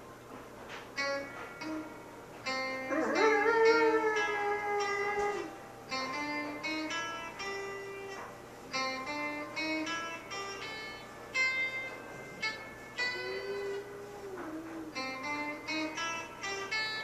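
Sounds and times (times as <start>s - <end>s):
acoustic guitar picked notes: 0.9s - 17.0s.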